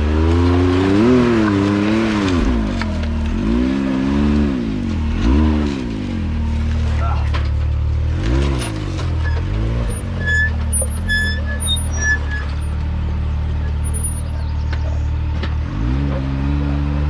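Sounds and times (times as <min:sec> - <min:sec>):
utility vehicle engine idling and revving: 0:00.0 - 0:17.0.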